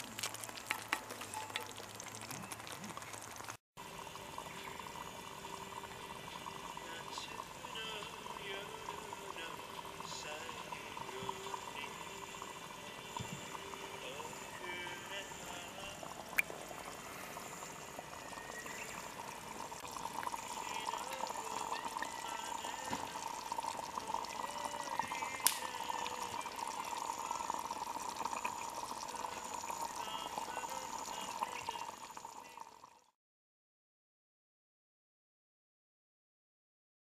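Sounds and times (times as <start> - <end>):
running water: 0.0 - 33.0.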